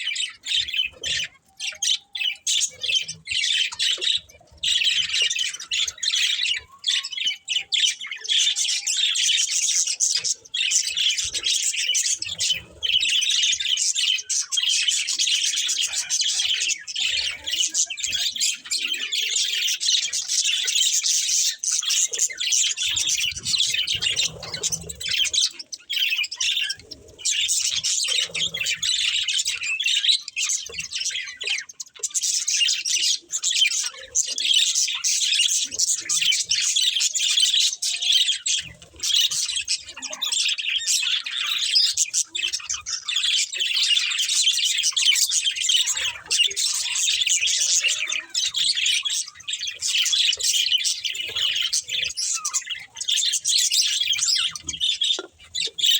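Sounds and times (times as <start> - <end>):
budgerigars chirping: 0.0 - 55.9.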